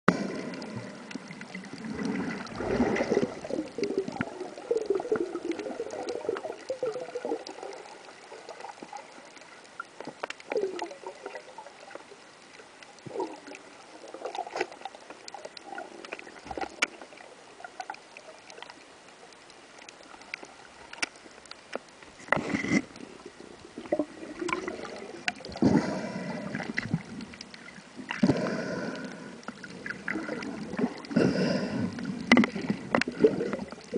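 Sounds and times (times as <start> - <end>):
underwater gurgling and bubbling: 0.1 - 21.5, 22.2 - 33.9
faint underwater clicks: 0.1 - 33.9.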